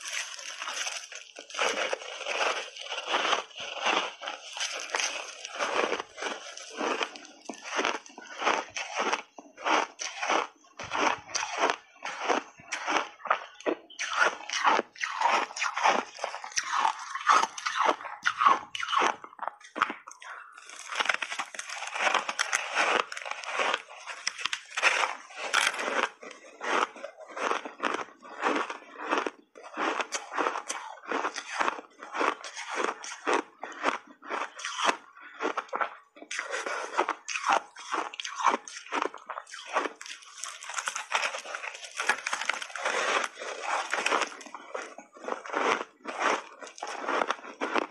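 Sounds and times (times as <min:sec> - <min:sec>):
chewing ice crunches: 0:00.0 - 0:47.9.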